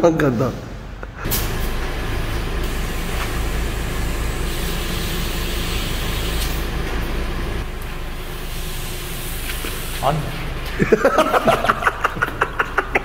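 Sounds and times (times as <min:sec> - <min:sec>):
air compressor humming and hissing: 0:01.2 - 0:13.0.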